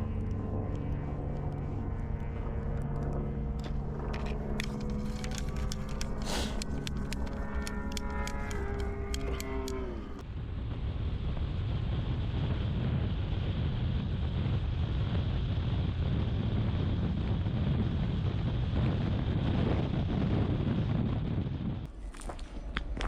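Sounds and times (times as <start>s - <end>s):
wind buffeting microphone: 0.1s - 23.0s.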